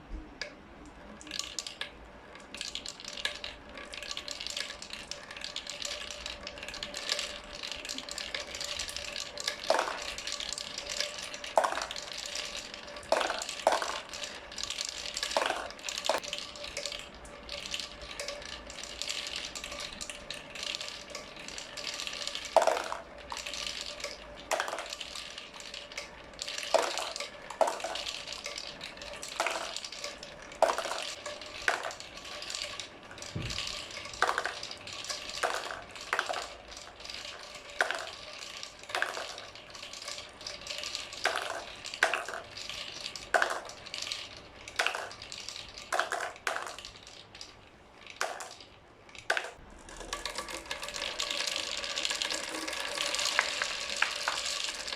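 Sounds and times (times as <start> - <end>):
marbles rolling through pipe: 0.4 - 54.9
marbles clacking: 1.2 - 54.9.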